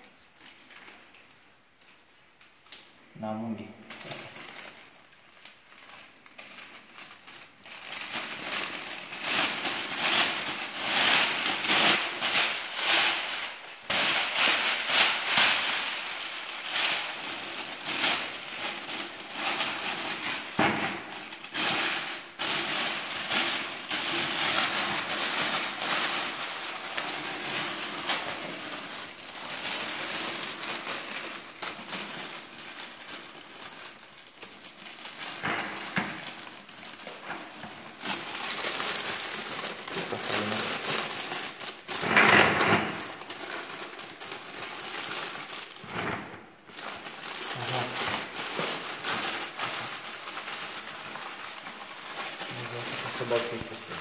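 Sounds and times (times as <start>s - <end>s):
plastic bag crinkling: 0.0s - 54.0s.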